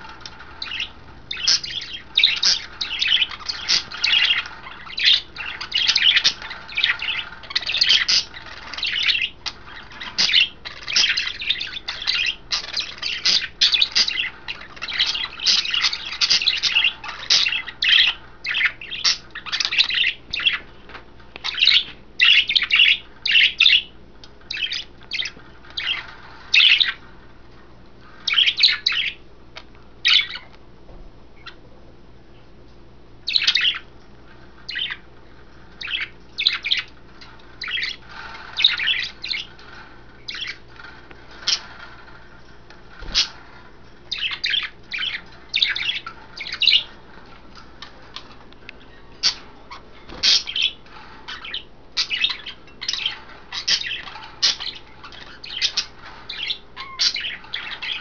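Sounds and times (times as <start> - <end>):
budgerigars chirping: 0.0 - 27.1, 28.2 - 29.2, 30.0 - 30.5, 33.3 - 33.9, 34.6 - 35.1, 35.7 - 58.0.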